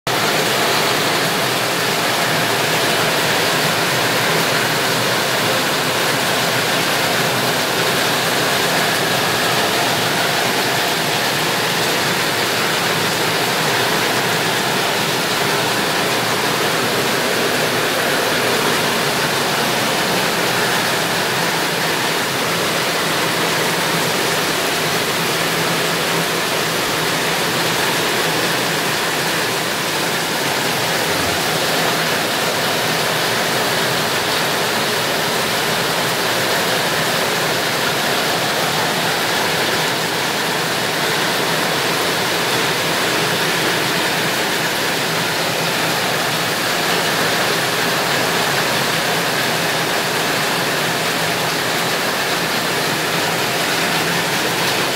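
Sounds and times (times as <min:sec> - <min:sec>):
heavy rain on roofs and foliage: 0:00.0 - 0:54.9.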